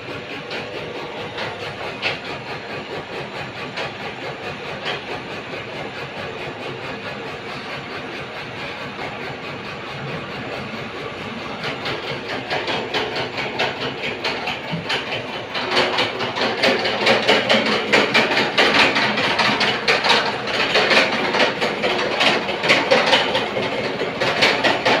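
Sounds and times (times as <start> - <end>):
machine clattering rhythmically: 0.0 - 25.0.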